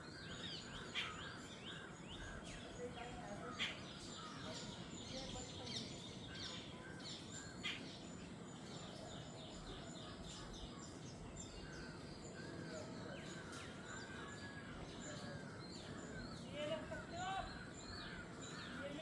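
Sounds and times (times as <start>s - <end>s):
jungle birds chirping: 0.0s - 19.0s
repeated arching bird calls: 0.0s - 19.0s.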